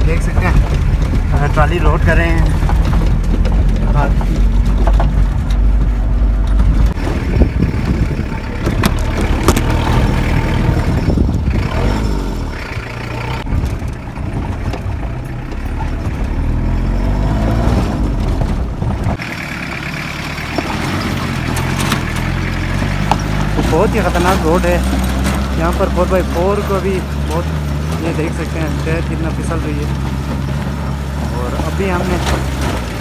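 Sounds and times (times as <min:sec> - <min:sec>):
truck engine rumbling under load: 0:00.0 - 0:33.0.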